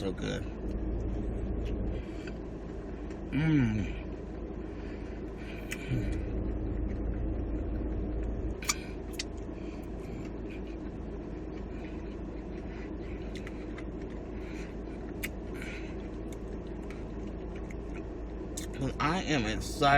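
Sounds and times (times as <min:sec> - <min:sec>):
low engine rumble and hum: 0:00.0 - 0:19.9.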